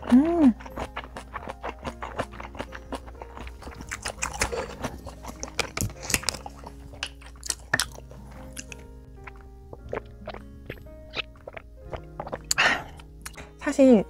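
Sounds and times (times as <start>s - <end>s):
wet chewing of food: 0.0s - 13.6s.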